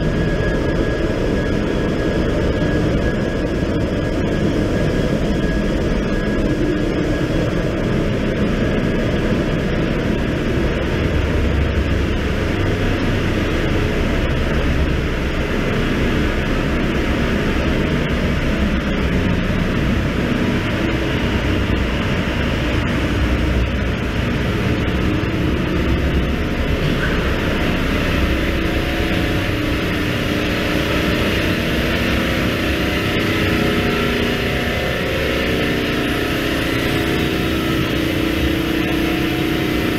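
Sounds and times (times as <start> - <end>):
ship engine room machinery drone: 0.0 - 39.9.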